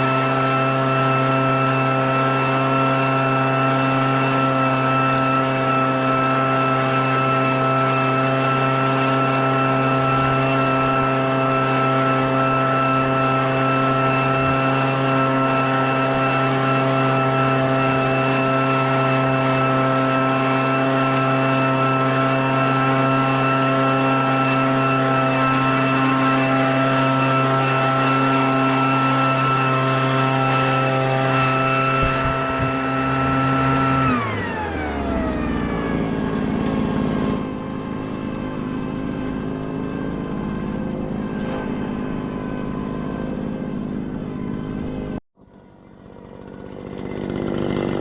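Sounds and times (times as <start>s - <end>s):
leaf blower engine running: 0.0s - 48.0s.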